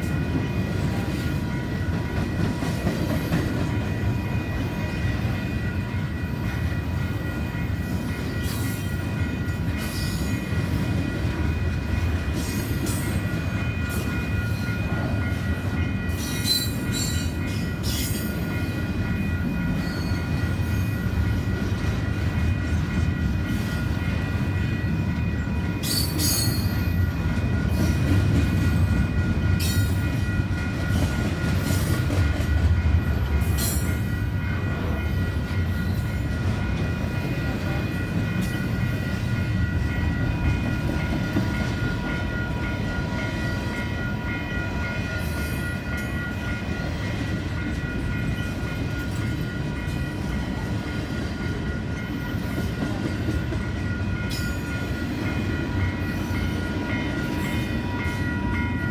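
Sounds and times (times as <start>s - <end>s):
freight train rumble: 0.0s - 58.9s.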